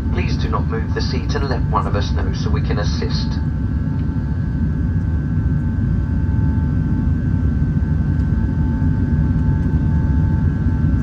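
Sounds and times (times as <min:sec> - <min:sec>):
engine and airflow rumble: 0:00.0 - 0:11.0
faint steady whine: 0:00.0 - 0:11.0.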